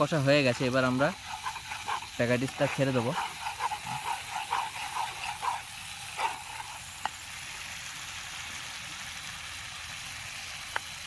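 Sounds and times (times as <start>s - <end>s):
spices sizzling in a pan: 0.0s - 11.0s.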